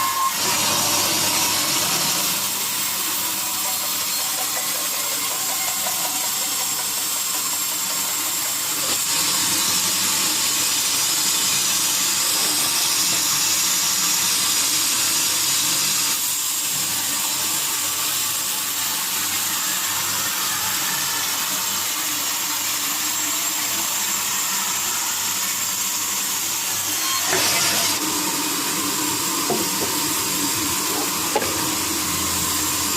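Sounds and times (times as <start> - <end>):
sawmill saw cutting wood: 0.0 - 32.9.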